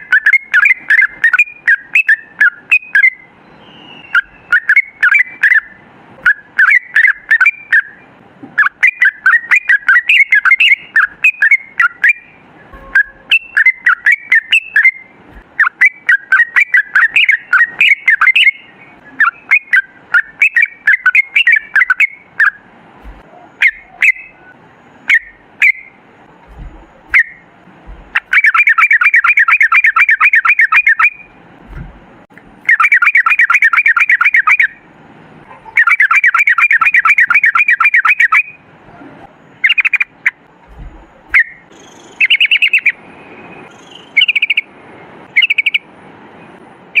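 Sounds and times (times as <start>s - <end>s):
bird singing chattering phrases: 0.0s - 31.4s, 32.6s - 34.8s, 35.4s - 38.6s, 39.3s - 43.0s, 43.6s - 44.7s
bird fast repeated notes: 0.0s - 34.9s, 35.6s - 38.6s, 39.6s - 45.9s.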